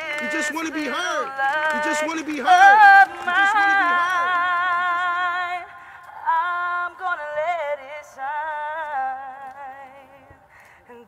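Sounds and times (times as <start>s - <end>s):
person singing with vibrato: 0.0s - 11.0s.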